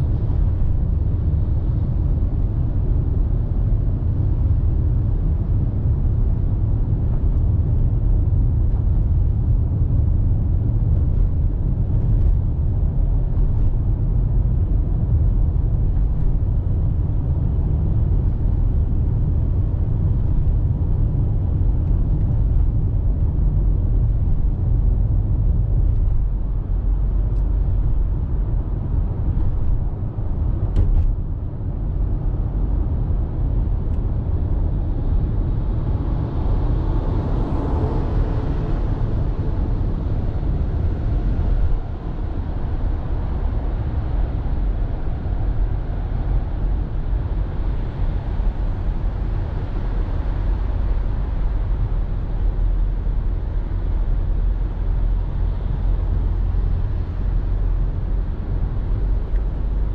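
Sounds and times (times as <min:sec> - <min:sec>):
road and tyre rumble: 0:00.0 - 0:59.9.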